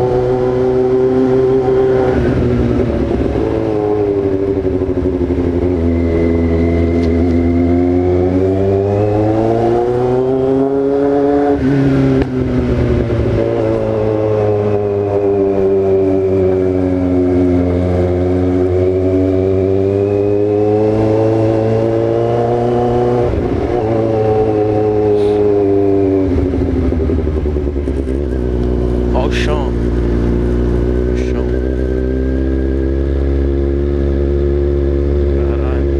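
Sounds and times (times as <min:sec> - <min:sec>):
motorcycle engine at speed: 0:00.0 - 0:35.9.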